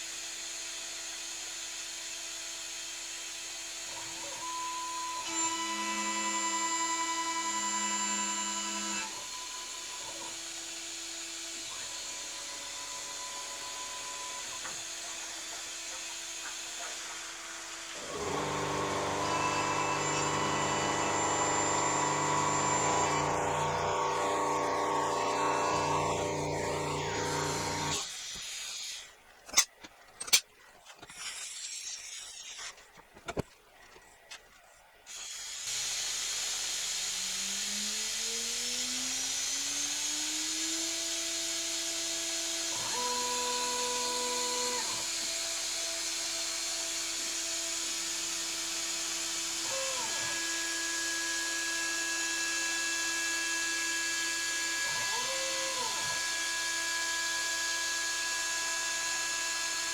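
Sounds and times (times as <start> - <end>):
milling machine spindle whine: 0.1 - 29.0, 35.8 - 59.9.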